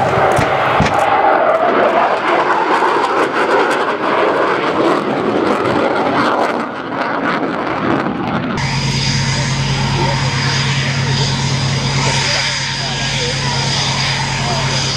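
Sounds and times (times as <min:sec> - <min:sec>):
jet engine noise: 0:00.0 - 0:14.9.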